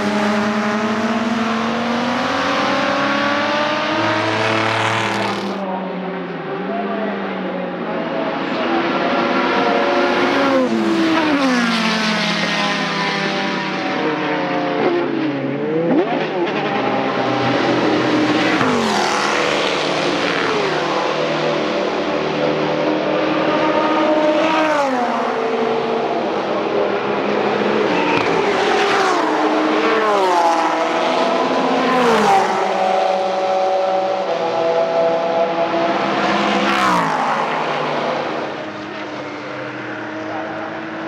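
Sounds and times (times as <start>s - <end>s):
racing car engines passing: 0.0s - 41.0s.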